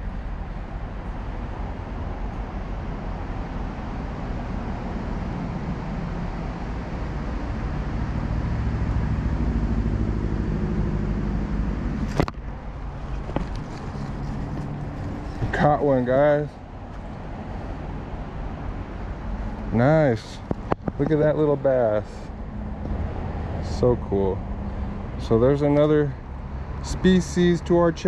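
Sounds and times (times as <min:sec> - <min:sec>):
road traffic rumble: 0:00.0 - 0:28.0
vehicle engine hum: 0:00.0 - 0:28.0.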